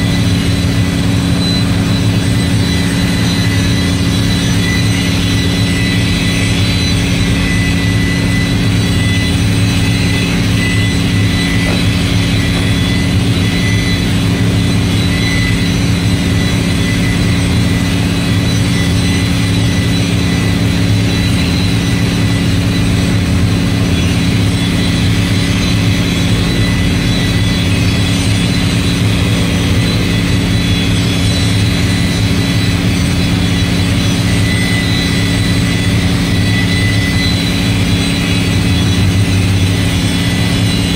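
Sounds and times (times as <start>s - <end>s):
machine drone with high whine: 0.0s - 40.9s.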